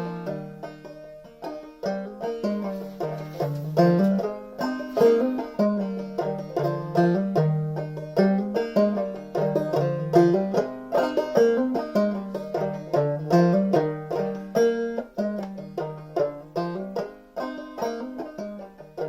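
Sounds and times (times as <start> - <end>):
clawhammer banjo playing: 0.0 - 19.0.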